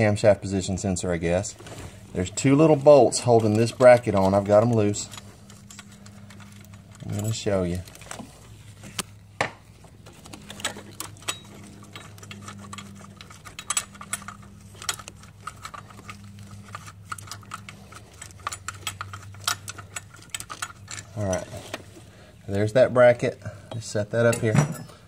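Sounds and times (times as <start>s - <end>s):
steady low hum: 0.0s - 25.0s
light metallic clicks and rattles: 1.5s - 9.2s, 9.8s - 22.6s.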